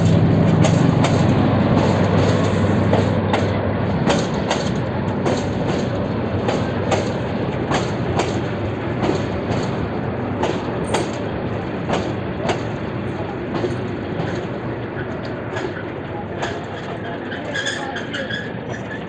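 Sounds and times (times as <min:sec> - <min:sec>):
steady train rumble: 0:00.0 - 0:19.0
train wheels clacking over rail joints: 0:00.0 - 0:19.0.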